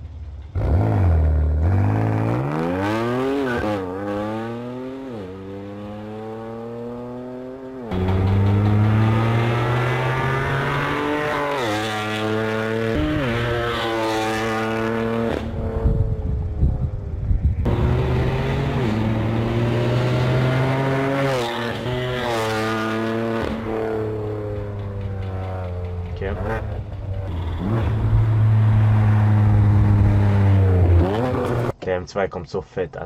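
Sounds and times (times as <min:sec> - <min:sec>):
car engine accelerating hard: 0:00.5 - 0:16.1, 0:17.6 - 0:31.7.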